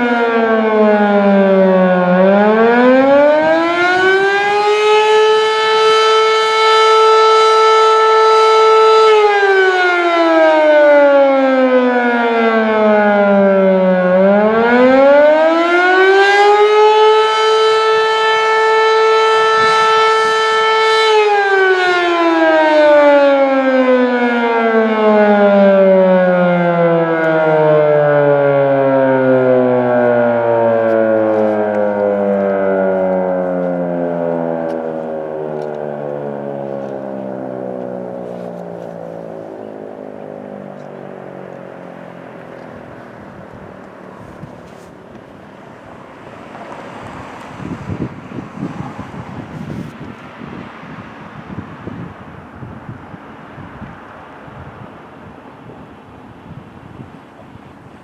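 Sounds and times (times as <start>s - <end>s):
fire siren wailing: 0.0s - 58.0s.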